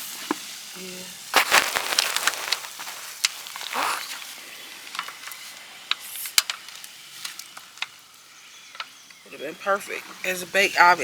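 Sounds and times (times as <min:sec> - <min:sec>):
food sizzling in a pan: 0:00.0 - 0:09.2.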